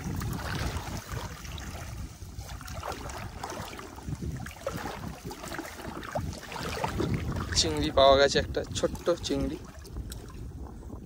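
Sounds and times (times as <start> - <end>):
low wind rumble on microphone: 0.0 - 11.0
shallow water splashing and trickling: 0.0 - 11.0.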